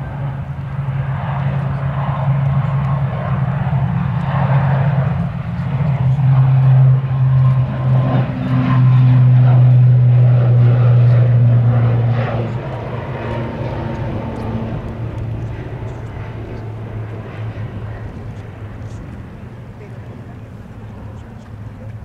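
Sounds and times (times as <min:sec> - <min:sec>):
propeller aircraft engine drone: 0:00.0 - 0:22.0.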